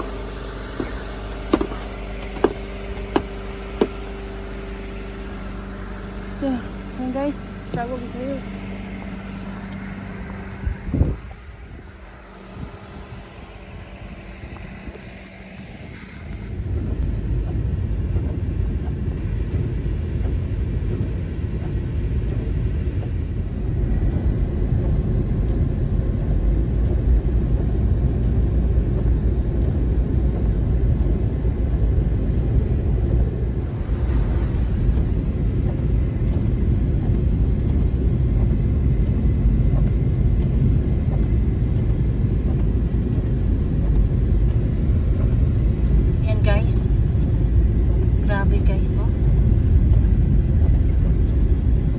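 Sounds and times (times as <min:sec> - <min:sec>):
car road and engine noise: 0:00.0 - 0:51.9.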